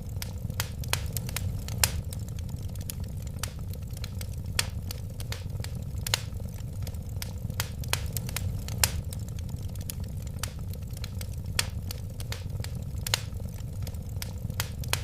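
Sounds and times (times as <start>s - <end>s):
burning wood crackles and pops: 0.0s - 15.0s
low rumble of flames: 0.0s - 15.0s.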